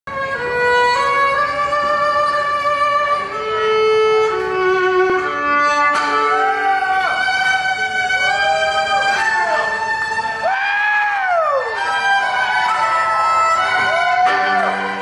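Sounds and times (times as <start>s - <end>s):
solo fiddle melody: 0.1s - 10.6s, 11.4s - 15.0s.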